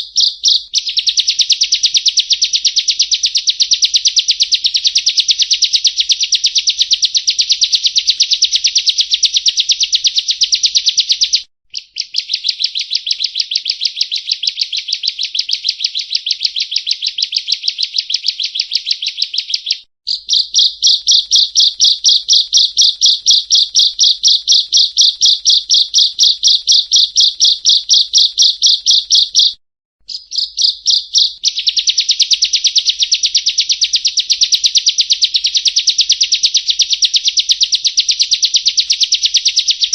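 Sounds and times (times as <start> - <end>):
bird song of sharp notes: 0.0 - 39.9.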